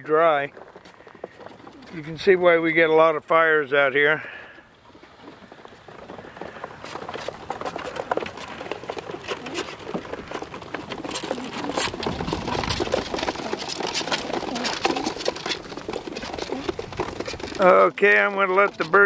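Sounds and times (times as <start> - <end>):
pigeons shuffling and rustling: 0.0 - 19.0
pigeons cooing: 0.6 - 2.4, 4.2 - 18.0.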